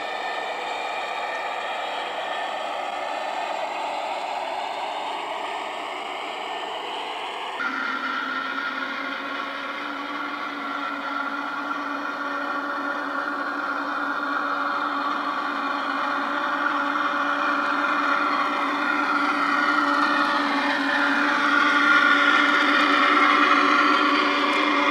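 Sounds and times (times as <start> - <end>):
model locomotive motor whirring: 0.0 - 24.9.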